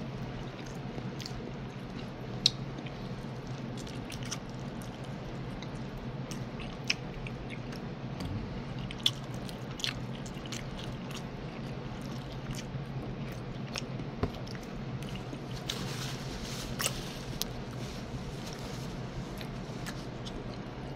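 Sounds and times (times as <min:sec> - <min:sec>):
low steady hum: 0:00.0 - 0:20.9
person chewing food: 0:00.3 - 0:18.6, 0:19.3 - 0:20.9.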